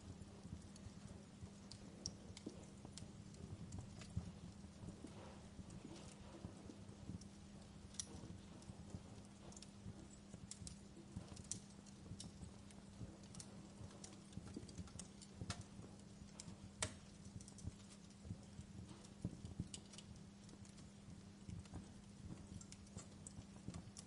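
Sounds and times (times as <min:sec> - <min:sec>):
steady low hum: 0:00.0 - 0:24.0
wood fire crackling: 0:00.0 - 0:24.0.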